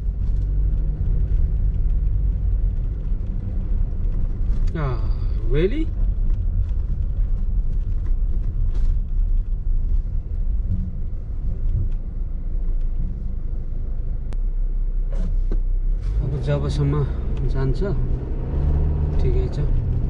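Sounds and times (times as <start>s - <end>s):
car interior driving rumble: 0.0s - 20.0s.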